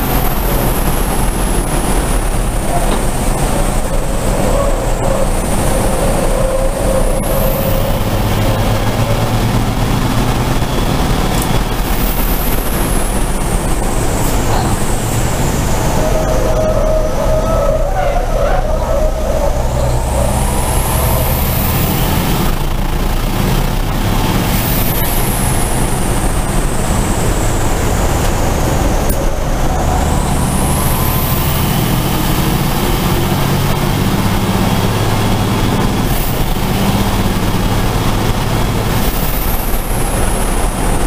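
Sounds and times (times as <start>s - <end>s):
diesel truck engine racing: 0.0s - 41.0s
road and wind noise: 0.0s - 41.0s.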